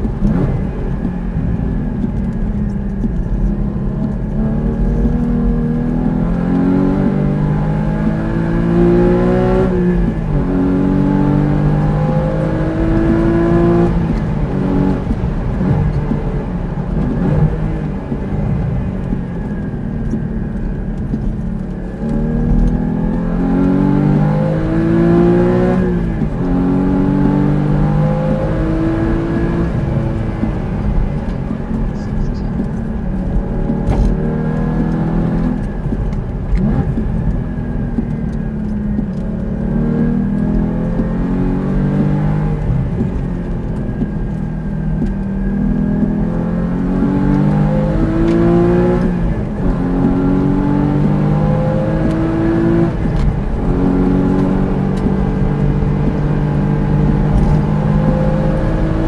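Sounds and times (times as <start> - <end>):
road and wind noise: 0.0 - 59.0
sports car engine revving: 0.0 - 59.0.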